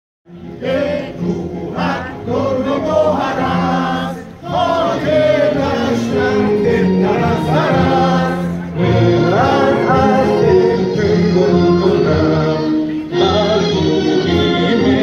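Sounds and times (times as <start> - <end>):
group of voices singing: 0.3 - 15.0.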